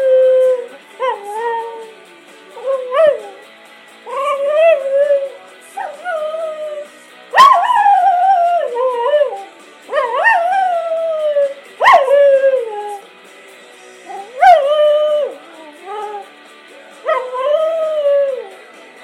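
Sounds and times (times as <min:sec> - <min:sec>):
dog howling: 0:00.0 - 0:01.9, 0:02.6 - 0:03.4, 0:04.1 - 0:13.1, 0:14.1 - 0:16.3, 0:17.0 - 0:18.6.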